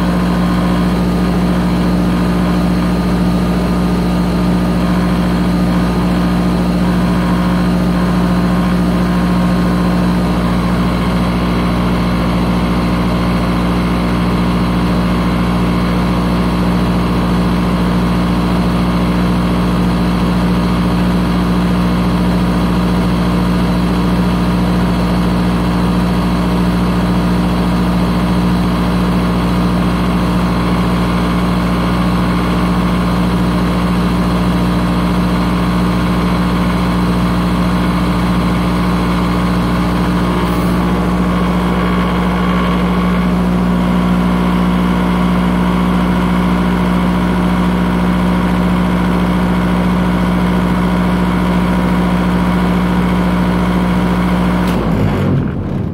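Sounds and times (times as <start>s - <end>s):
air compressor humming: 0.0s - 54.8s.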